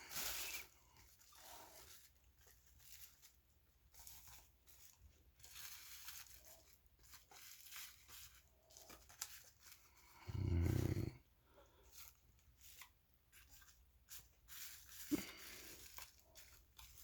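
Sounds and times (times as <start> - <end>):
packaging rustling and tearing: 0.0 - 11.1, 11.8 - 17.0.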